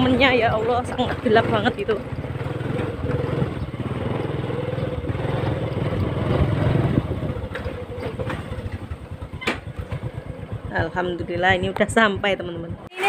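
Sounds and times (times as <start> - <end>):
small motorcycle engine: 0.0 - 13.0.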